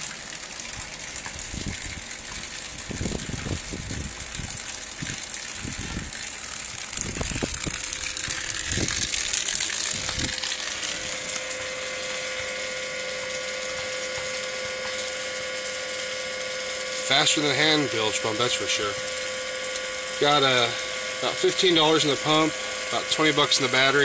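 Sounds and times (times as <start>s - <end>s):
electric pump motor humming: 0.0s - 24.0s
water jet splashing on ground: 0.0s - 24.0s.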